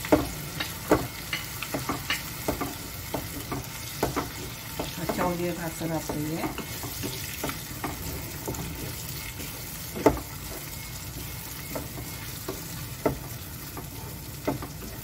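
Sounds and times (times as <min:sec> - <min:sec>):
food sizzling in a pan: 0:00.0 - 0:15.0
spatula stirring and scraping: 0:00.0 - 0:15.0.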